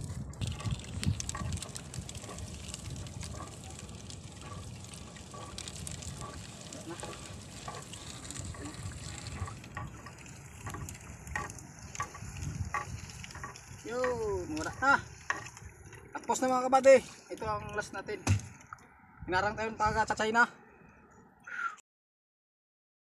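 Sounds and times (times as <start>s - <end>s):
water dripping and splashing: 0.0s - 19.0s.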